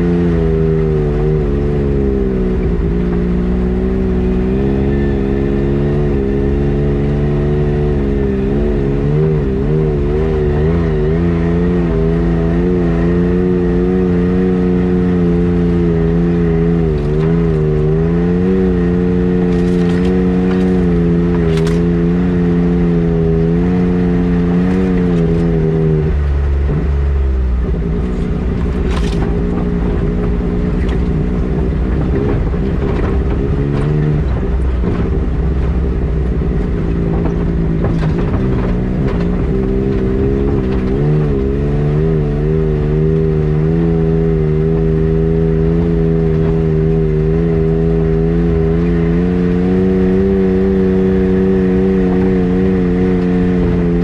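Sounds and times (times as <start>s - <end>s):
steady low rumble: 0.0s - 54.0s
vehicle engine running: 0.0s - 54.0s.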